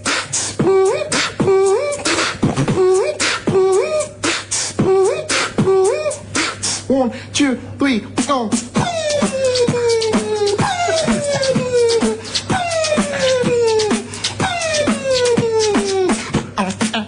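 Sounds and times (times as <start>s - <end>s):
beatboxing: 0.0s - 7.5s, 8.1s - 17.0s.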